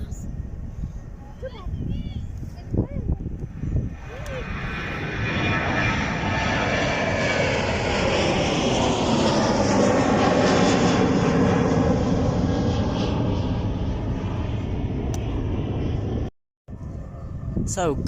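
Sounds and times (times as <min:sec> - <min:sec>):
airliner engines passing: 0:00.0 - 0:18.0.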